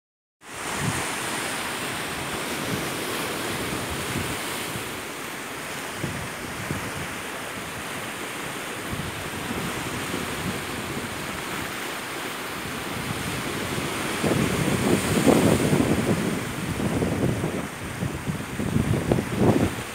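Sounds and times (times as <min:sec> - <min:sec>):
surf washing over rocks: 0:00.4 - 0:19.9
wind on microphone: 0:00.5 - 0:11.9, 0:12.5 - 0:19.9.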